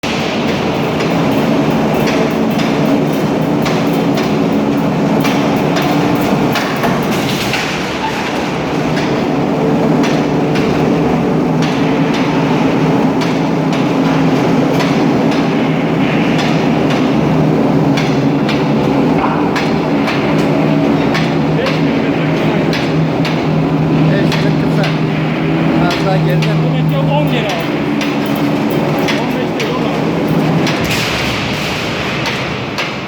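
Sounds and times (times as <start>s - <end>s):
metallic knocks and clanks: 0.0s - 33.0s
steady machine drone: 0.0s - 33.0s.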